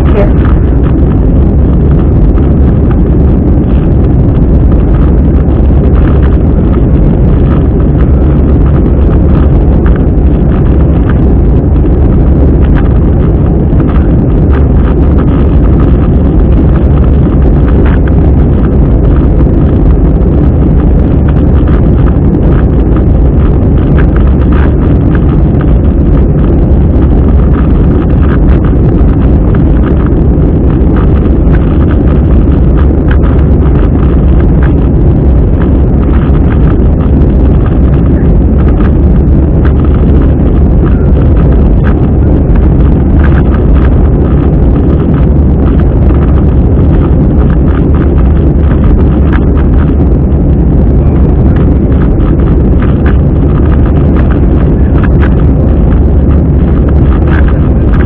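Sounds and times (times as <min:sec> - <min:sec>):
airplane cabin engine rumble: 0:00.0 - 0:58.0
faint clicks and rattles: 0:00.0 - 0:58.0.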